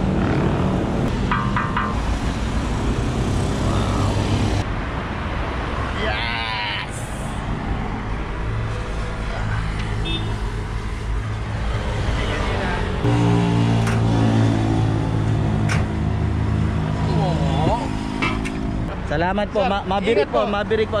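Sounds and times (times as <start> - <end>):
passing cars traffic: 0.0 - 21.0.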